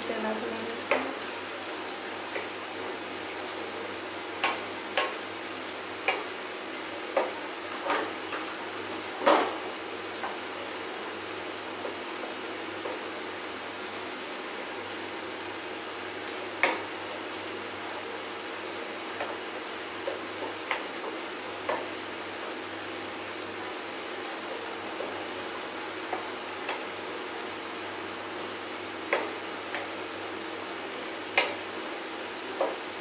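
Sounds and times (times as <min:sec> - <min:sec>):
curry sizzling in a pan: 0:00.0 - 0:33.0.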